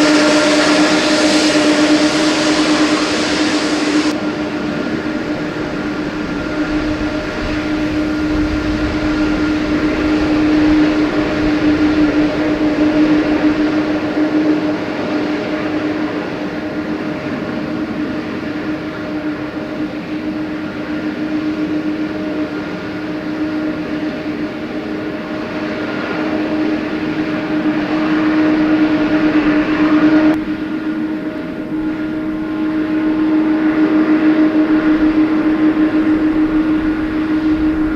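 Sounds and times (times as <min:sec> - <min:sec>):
jet engines whining and roaring: 0:00.0 - 0:37.9.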